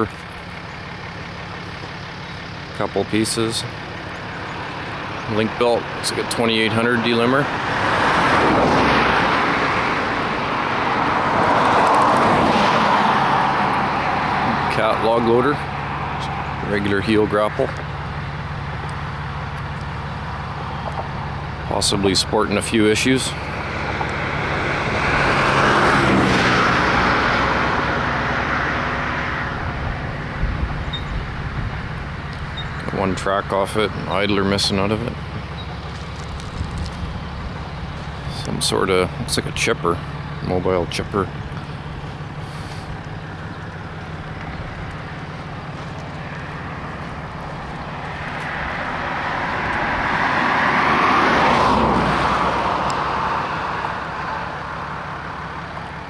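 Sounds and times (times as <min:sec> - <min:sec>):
low engine hum: 0:00.0 - 0:56.0
vehicle passing with tyre rush: 0:00.0 - 0:56.0.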